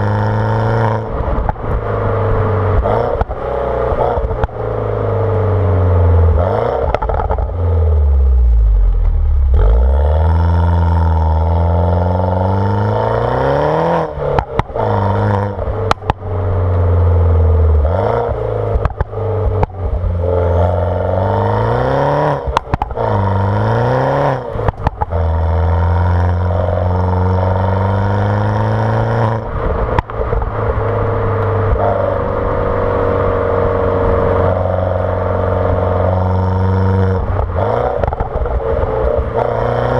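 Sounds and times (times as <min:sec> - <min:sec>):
exhaust crackles and pops: 0:00.0 - 0:02.0, 0:02.6 - 0:04.8, 0:06.0 - 0:13.0, 0:13.7 - 0:33.8, 0:34.4 - 0:39.9
car engine revving: 0:00.0 - 0:39.9.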